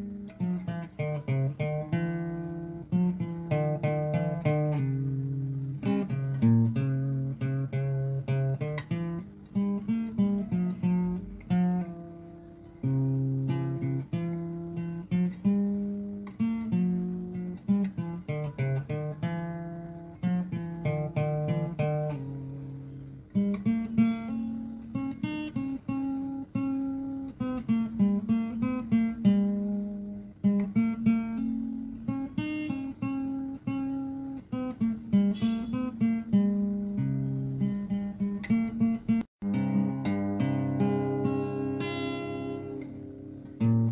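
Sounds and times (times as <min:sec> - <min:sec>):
plucked guitar melody: 0:00.0 - 0:43.9.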